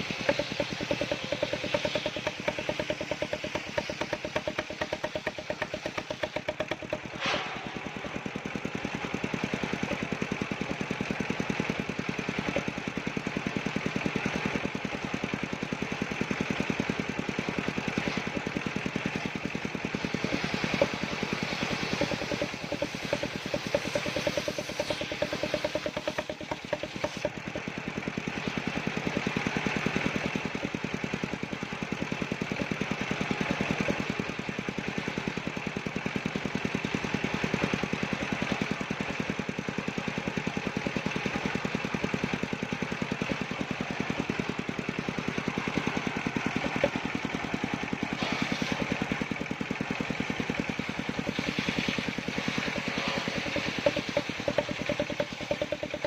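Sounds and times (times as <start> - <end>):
wood-cutting machine engine running: 0.0 - 56.0.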